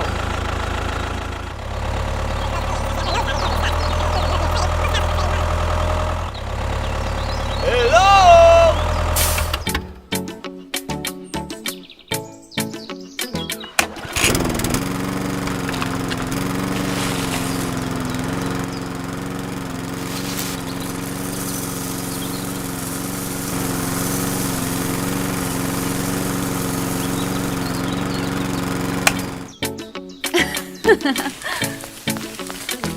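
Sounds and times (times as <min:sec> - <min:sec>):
small engine running: 0:00.0 - 0:10.0, 0:13.5 - 0:29.8, 0:30.4 - 0:32.9.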